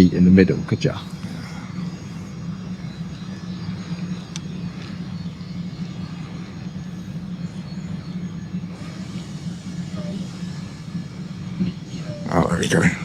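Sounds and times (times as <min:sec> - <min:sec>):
drone propeller hum: 0:00.0 - 0:13.0.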